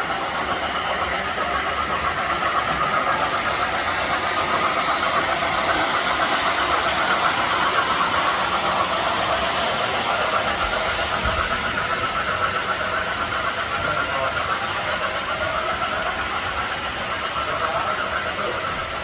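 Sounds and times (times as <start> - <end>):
model train whirring: 0.0 - 19.0.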